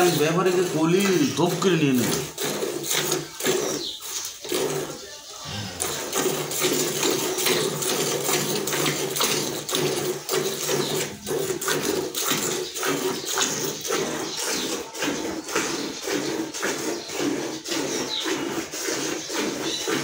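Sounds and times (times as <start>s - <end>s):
milk squirting into a pail: 0.0s - 20.0s.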